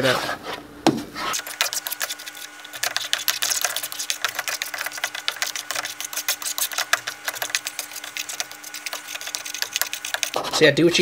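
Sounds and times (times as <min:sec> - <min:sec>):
plastic spatula scraping frying pan: 0:01.2 - 0:10.6.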